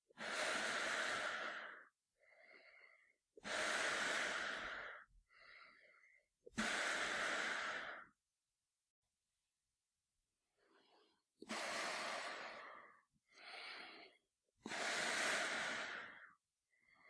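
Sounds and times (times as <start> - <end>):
man breathing through gas mask: 0.1 - 8.2, 10.6 - 17.0.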